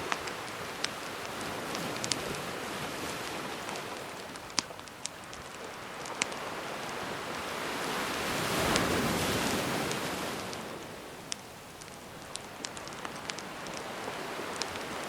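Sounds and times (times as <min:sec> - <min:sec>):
gentle ocean waves: 0:00.0 - 0:15.0
wood fire crackling: 0:00.0 - 0:15.0.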